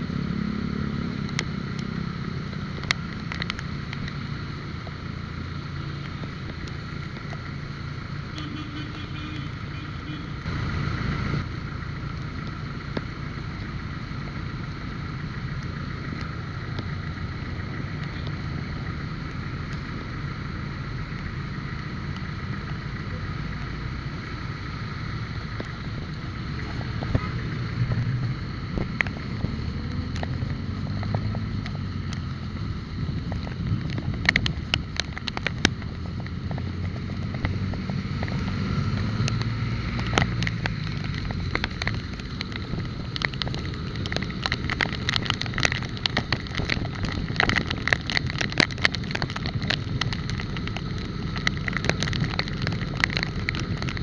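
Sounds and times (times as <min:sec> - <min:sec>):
low road rumble: 0:00.0 - 0:54.0.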